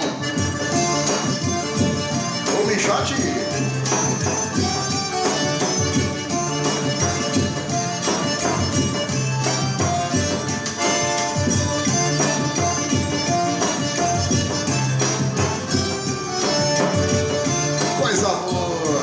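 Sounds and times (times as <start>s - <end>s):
band playing instrumental: 0.0s - 19.0s.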